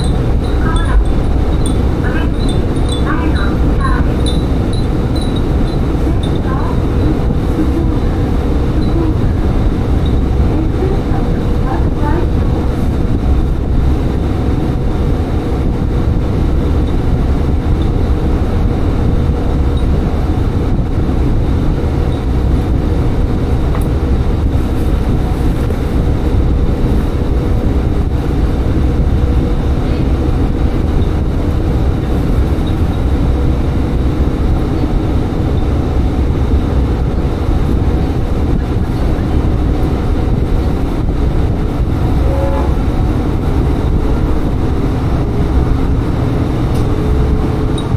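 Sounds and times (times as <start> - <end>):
diesel railcar rumble: 0.0 - 47.9.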